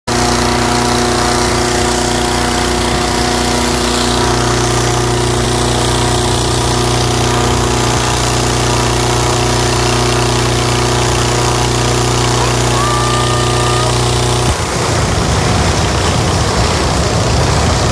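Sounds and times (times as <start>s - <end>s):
engine-driven inflator fan running: 0.1s - 17.9s.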